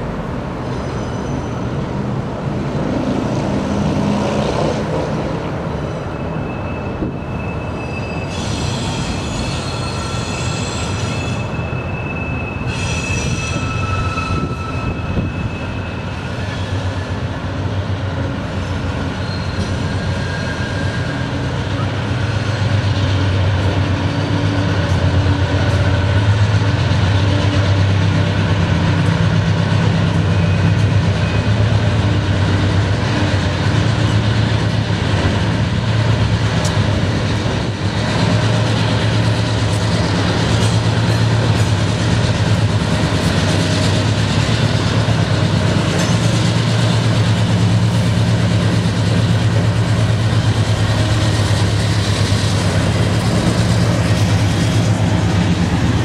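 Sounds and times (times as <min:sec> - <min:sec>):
diesel locomotive engines droning: 0:00.0 - 0:56.0
train wheels rolling on rails: 0:00.0 - 0:56.0.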